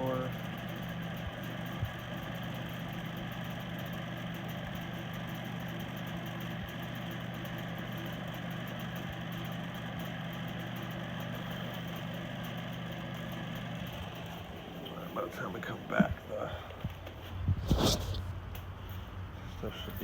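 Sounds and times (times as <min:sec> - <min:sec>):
furnace motor hum: 0:00.0 - 0:20.0.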